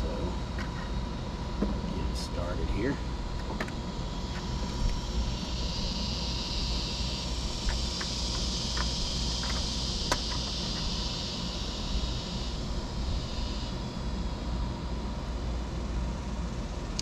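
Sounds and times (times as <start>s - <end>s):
high hiss: 0.0s - 16.1s.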